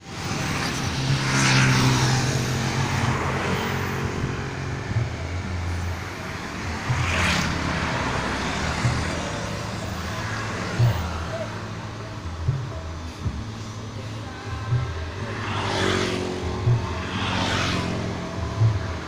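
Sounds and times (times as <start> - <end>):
vehicle engine running: 0.0 - 19.0
vehicles passing by: 0.0 - 19.0.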